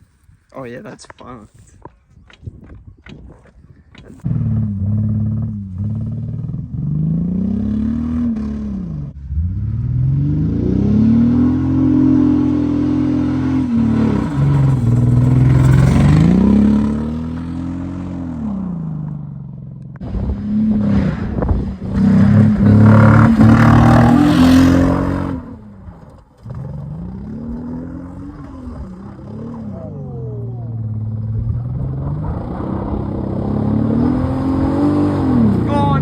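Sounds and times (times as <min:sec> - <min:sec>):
car engine revving: 0:04.2 - 0:36.0.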